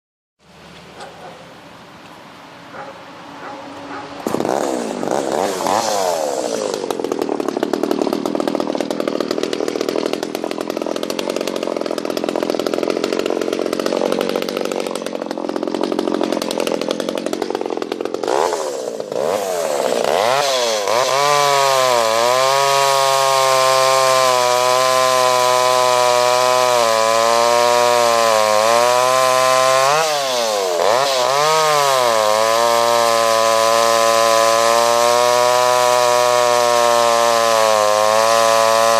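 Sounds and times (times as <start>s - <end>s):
chainsaw engine revving: 3.8s - 38.9s.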